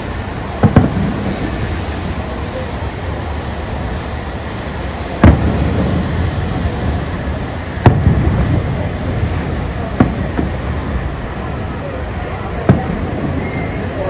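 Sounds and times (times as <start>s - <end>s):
fireworks bangs: 0.0s - 13.8s
steady rumbling background noise: 0.0s - 14.0s.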